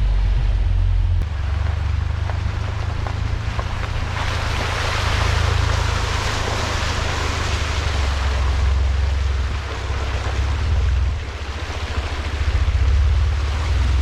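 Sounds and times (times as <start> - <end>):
engine and road rumble: 0.0 - 14.0
wind and tyre noise: 0.0 - 14.0.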